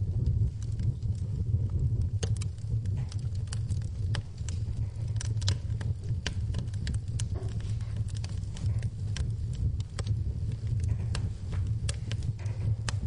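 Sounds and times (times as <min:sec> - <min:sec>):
low rumble of burning fire: 0:00.0 - 0:13.0
wood fire crackling and popping: 0:00.0 - 0:13.0.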